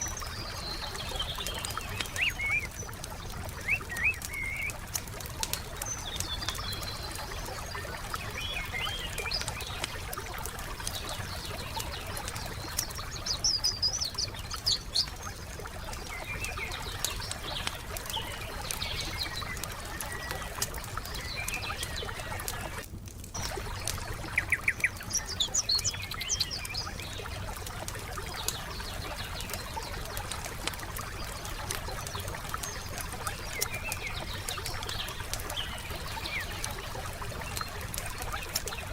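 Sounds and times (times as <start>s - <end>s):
forest birds chirping: 0.0s - 38.9s
wood fire crackling: 0.0s - 38.9s.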